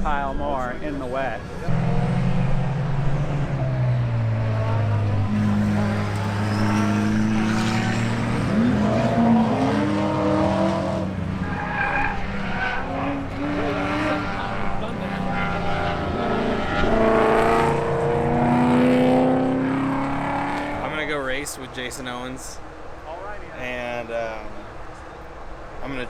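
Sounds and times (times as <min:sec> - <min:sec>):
race car engines: 0:00.0 - 0:26.0.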